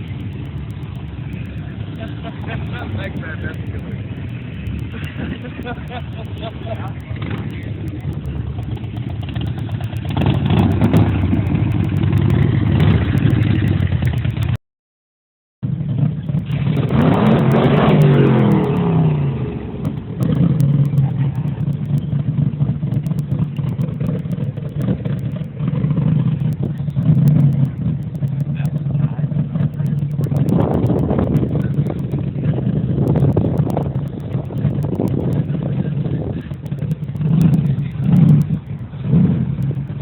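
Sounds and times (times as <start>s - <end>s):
car engines running: 0.0s - 14.6s, 15.6s - 40.0s
loud engine pitch falling: 0.0s - 14.6s, 15.6s - 40.0s.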